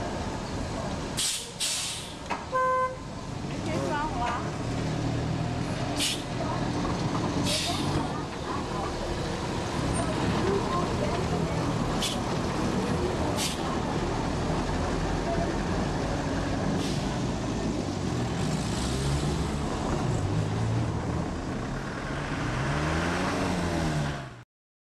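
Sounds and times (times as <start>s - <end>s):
vehicle engine rumbling: 0.0s - 24.4s.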